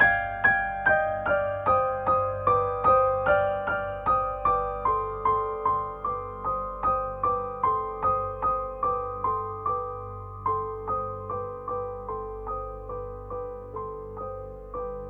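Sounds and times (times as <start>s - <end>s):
soft keyboard notes: 0.0s - 15.0s
steady low tone: 0.0s - 15.0s.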